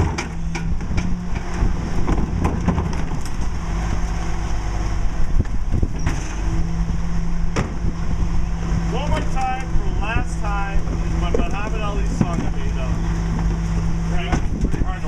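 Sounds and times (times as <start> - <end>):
garbage truck running: 0.0 - 15.0.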